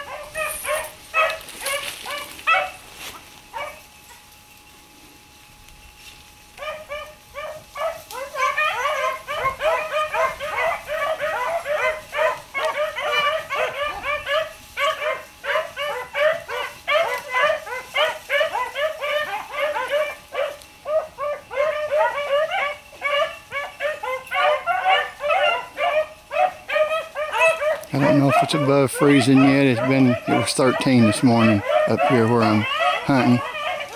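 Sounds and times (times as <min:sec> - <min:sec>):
hounds baying: 0:00.0 - 0:04.5, 0:06.6 - 0:33.9.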